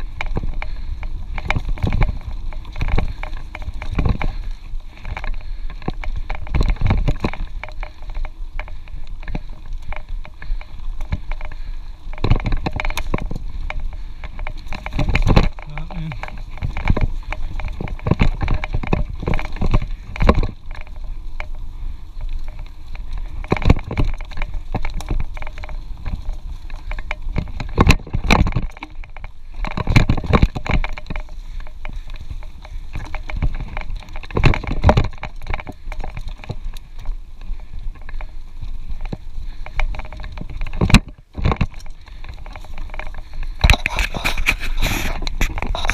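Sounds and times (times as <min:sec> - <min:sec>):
bike knocks and rattles: 0:00.0 - 0:45.9
wind rumbling on microphone: 0:00.0 - 0:45.9.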